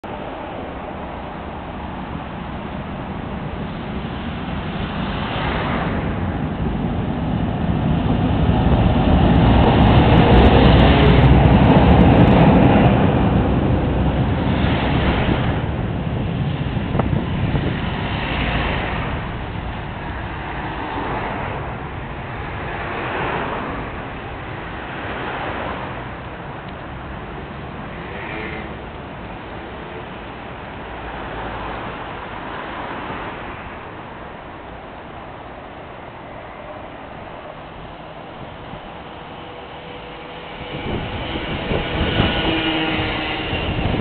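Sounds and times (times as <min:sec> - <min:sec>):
road traffic rumble: 0:00.0 - 0:44.0
heavy vehicle passing: 0:00.1 - 0:44.0.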